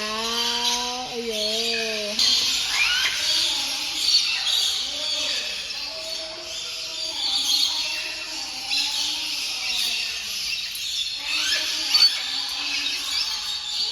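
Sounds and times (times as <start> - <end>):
birds squealing and chirping: 0.0 - 13.9.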